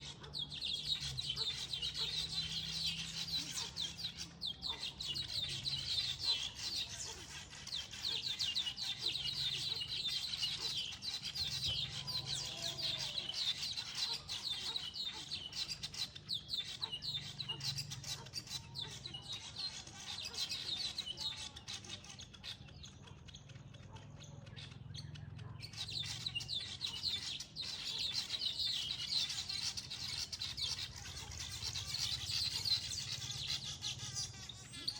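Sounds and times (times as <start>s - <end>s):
small birds chattering: 0.0s - 34.9s.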